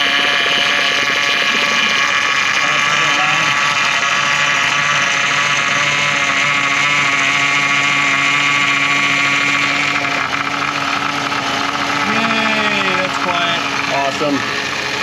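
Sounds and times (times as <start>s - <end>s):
power steering pump whine: 0.0s - 15.0s.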